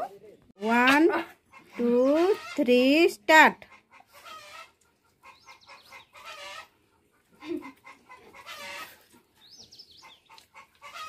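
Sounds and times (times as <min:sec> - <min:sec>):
chickens clucking: 0:00.0 - 0:02.6, 0:03.5 - 0:11.0.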